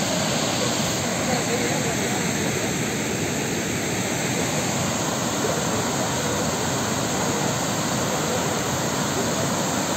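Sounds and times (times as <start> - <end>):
water rushing over spillway: 0.0 - 9.9.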